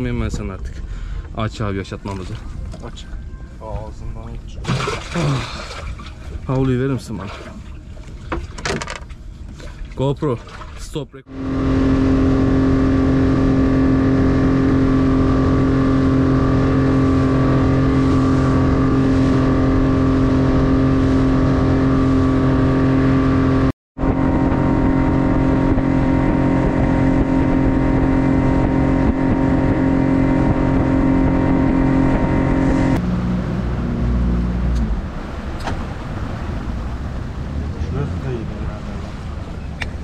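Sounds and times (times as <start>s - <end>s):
motorboat engine running: 0.0s - 40.0s.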